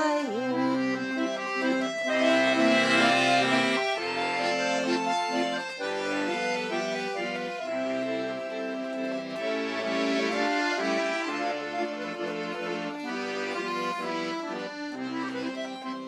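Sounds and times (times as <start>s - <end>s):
accordion melody: 0.0s - 16.0s.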